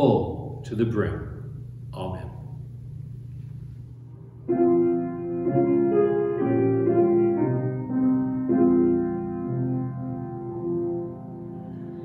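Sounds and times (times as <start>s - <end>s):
low steady hum: 0.0s - 12.0s
piano playing slow chords: 1.2s - 12.0s.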